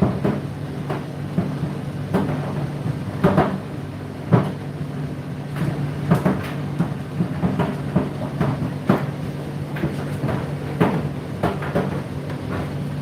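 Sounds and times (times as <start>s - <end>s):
tumble dryer motor hum: 0.0s - 13.0s.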